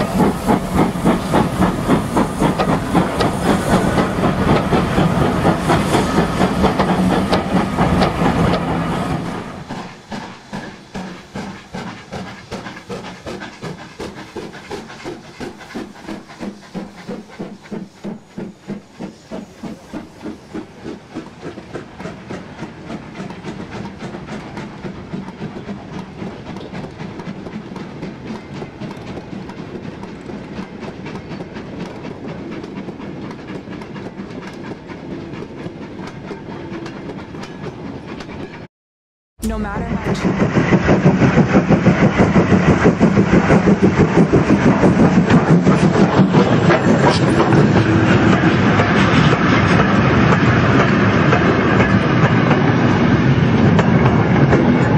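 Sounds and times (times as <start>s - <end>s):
model steam locomotive chuffing: 0.0s - 38.7s, 40.1s - 54.9s.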